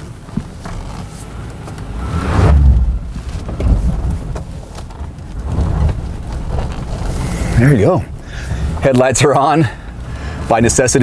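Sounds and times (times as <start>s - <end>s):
truck engine rumble: 0.0s - 11.0s
tyres on dirt trail: 0.0s - 11.0s.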